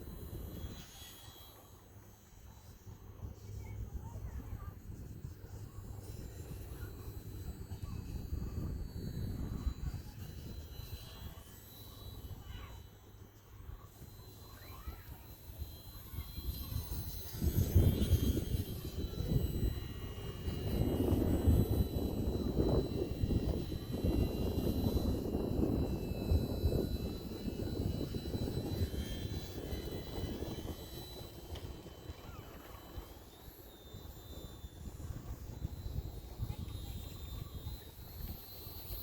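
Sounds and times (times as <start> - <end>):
model airplane motor whining: 0.0 - 39.0
wind buffeting microphone: 2.9 - 11.6, 13.7 - 39.0.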